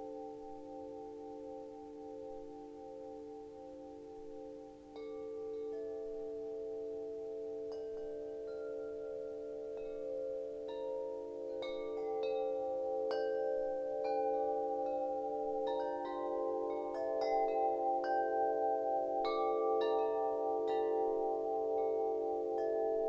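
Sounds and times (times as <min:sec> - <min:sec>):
wind chimes ringing: 0:00.0 - 0:23.0.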